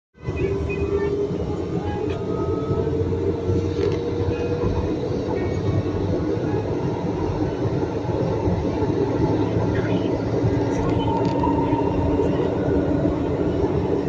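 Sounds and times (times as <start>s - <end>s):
train rumbling and whining: 0.2s - 14.0s.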